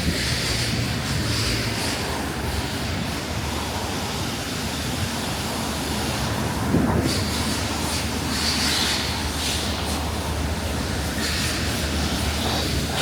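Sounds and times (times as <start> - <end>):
low city rumble with hiss: 0.0 - 13.0.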